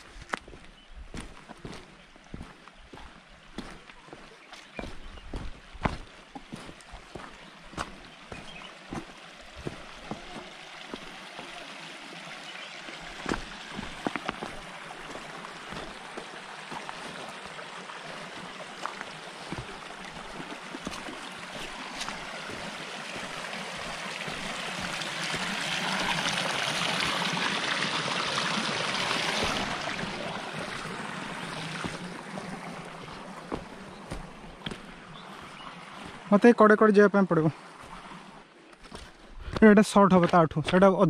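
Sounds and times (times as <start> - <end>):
footsteps scuffing on loose rocks: 0.0 - 11.6, 12.9 - 26.2, 29.3 - 36.3, 37.8 - 41.0
stream trickling over stones: 0.0 - 41.0.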